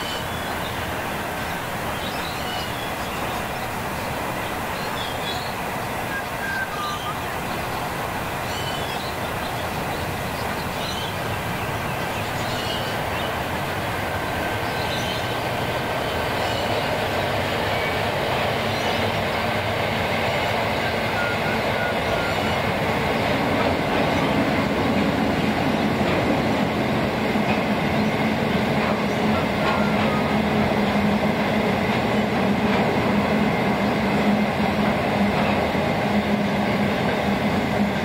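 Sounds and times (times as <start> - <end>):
train wagons rolling past: 0.0 - 38.0.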